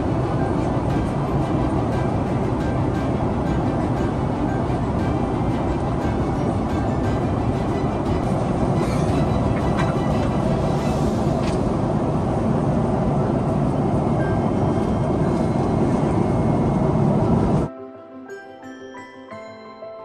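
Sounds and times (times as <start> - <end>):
jet airliner cabin rumble: 0.0 - 17.7.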